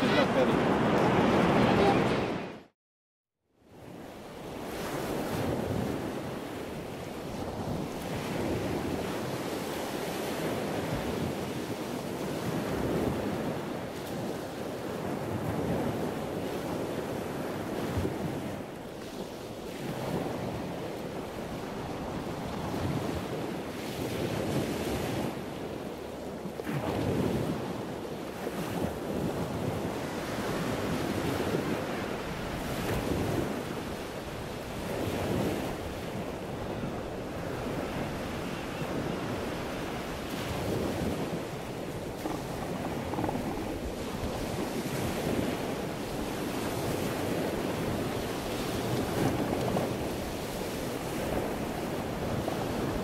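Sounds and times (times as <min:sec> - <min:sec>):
surf: 0:00.0 - 0:02.7, 0:03.9 - 0:53.0
wind buffeting microphone: 0:03.8 - 0:53.0.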